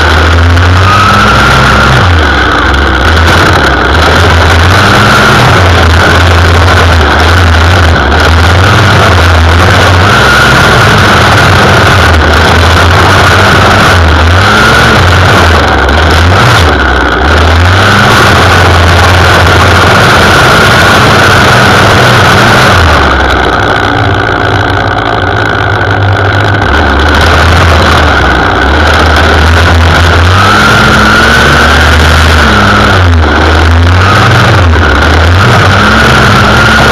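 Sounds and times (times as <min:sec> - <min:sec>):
string trimmer engine whine: 0:00.0 - 0:36.9
trimmer line cutting grass: 0:00.0 - 0:36.9.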